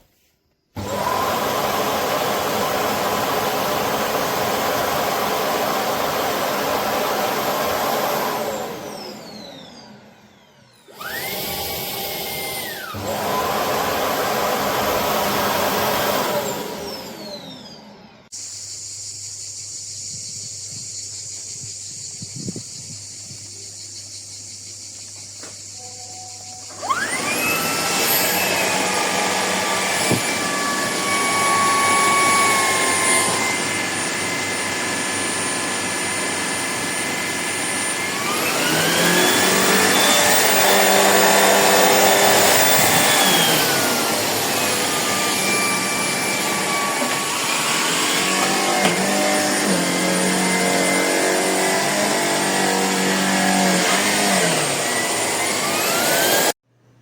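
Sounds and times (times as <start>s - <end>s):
cordless vacuum motor whine: 0.8s - 18.3s, 25.5s - 56.6s.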